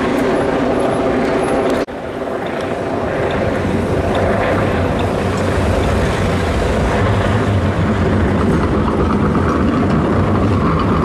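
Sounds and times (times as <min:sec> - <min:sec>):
tram passing: 0:00.0 - 0:11.0.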